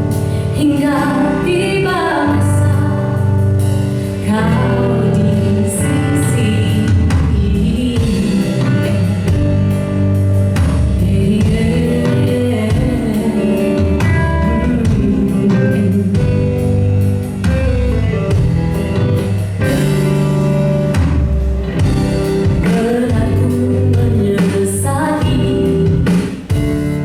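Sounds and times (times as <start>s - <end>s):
bass: 0.0s - 27.0s
drum kit beat: 0.0s - 27.0s
guitar chords: 0.0s - 27.0s.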